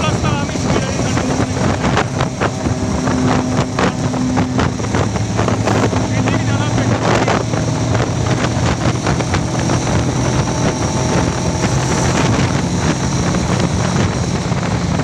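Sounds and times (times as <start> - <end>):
motorcycle engine running hard: 0.0 - 15.0
wind buffeting microphone: 0.0 - 15.0.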